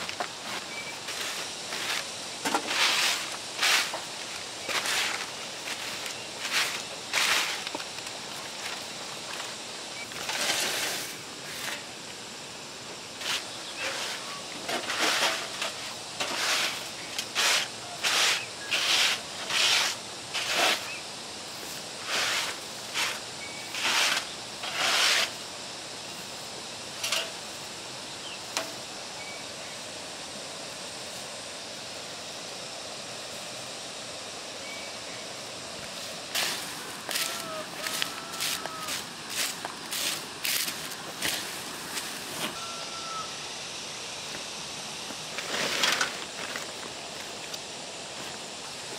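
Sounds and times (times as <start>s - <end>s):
steady outdoor hiss: 0.0s - 48.9s.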